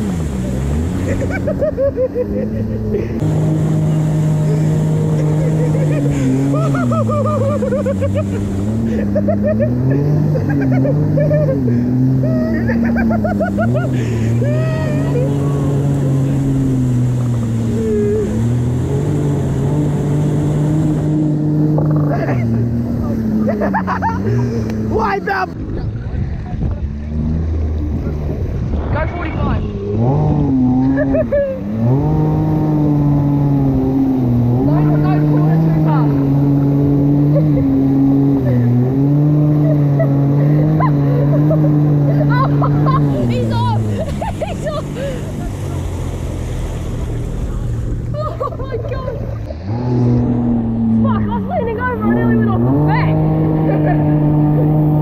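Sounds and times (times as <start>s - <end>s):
jet ski engine drone: 0.0s - 55.0s
water rushing against hull: 0.0s - 55.0s.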